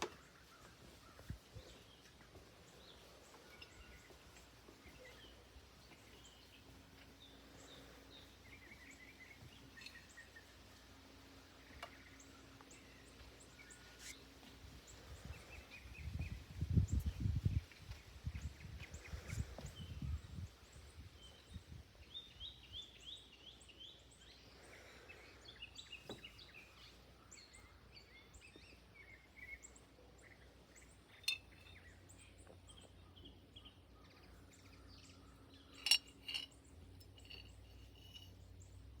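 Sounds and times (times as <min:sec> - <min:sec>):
wild birds singing and chirping: 0:00.0 - 0:39.0.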